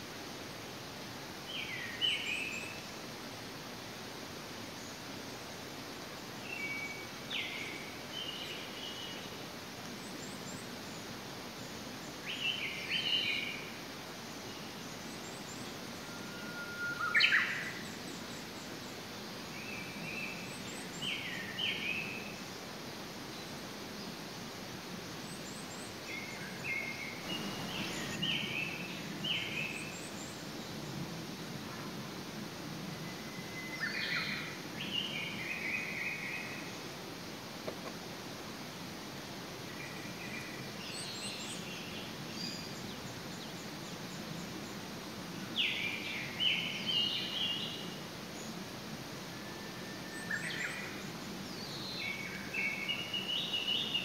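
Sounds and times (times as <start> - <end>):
outdoor ambience: 0.0 - 54.0
songbird singing: 0.0 - 54.0.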